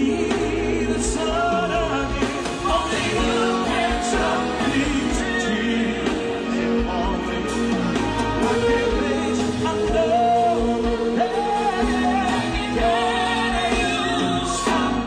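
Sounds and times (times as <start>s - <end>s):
slow rnb ballad by band: 0.0s - 15.0s.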